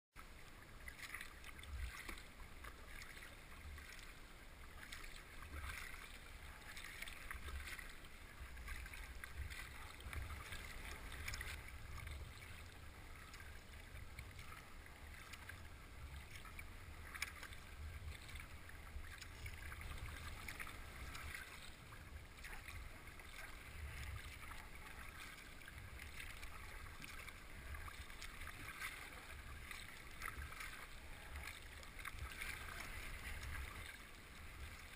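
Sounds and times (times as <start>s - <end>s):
kayak paddle strokes on water: 0.2s - 34.9s
water dripping from paddle: 0.5s - 34.9s.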